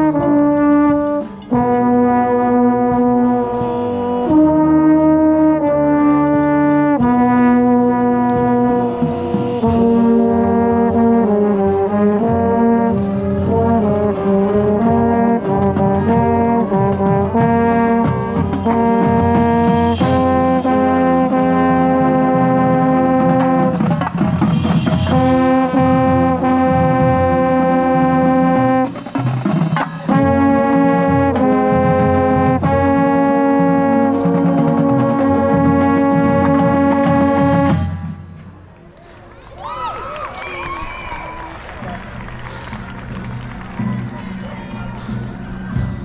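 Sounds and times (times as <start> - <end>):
trombone notes and chords: 0.0 - 38.6, 45.7 - 46.0
marching band brass playing: 0.0 - 38.8, 45.7 - 46.0.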